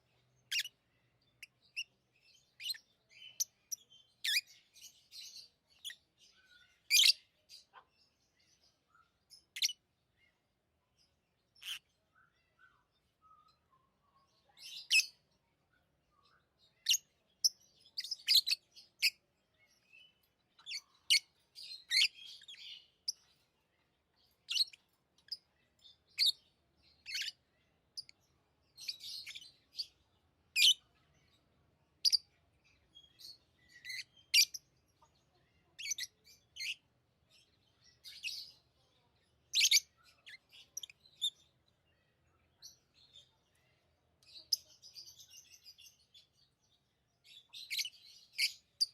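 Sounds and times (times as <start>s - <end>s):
lovebirds chirping: 0.0s - 48.9s.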